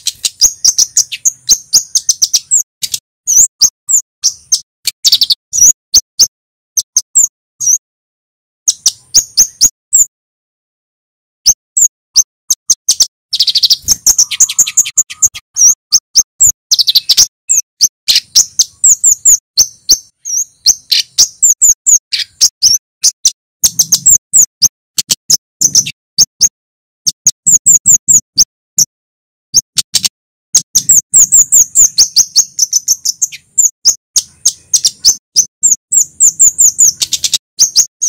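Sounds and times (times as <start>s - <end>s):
bird singing high chips: 0.0s - 7.8s, 8.7s - 10.1s, 11.4s - 28.9s, 29.6s - 38.0s.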